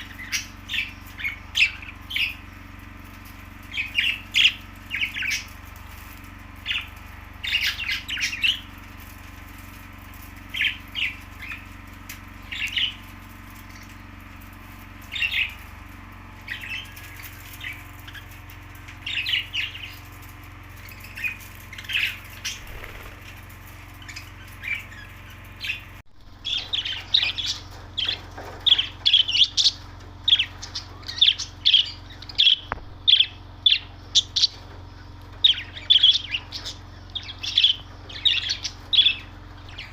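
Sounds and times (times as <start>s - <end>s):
budgerigars chirping and squawking: 0.0s - 2.6s, 3.2s - 14.1s, 15.0s - 15.7s, 16.4s - 39.9s
steady low hum: 0.0s - 39.9s.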